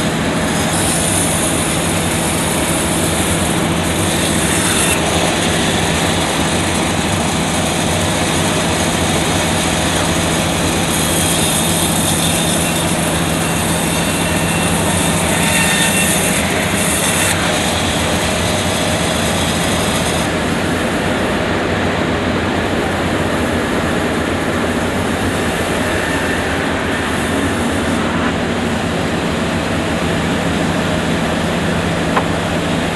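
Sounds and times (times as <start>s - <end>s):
machinery humming: 0.0s - 32.9s.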